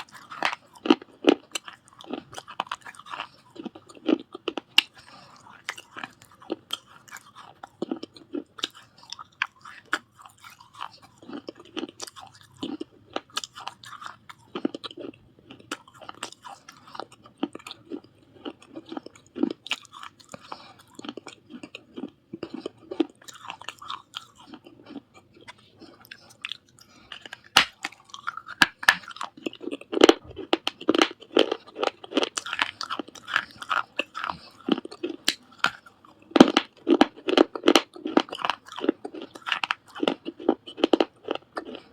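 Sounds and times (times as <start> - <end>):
chewing crunchy clay: 0.0 - 41.9.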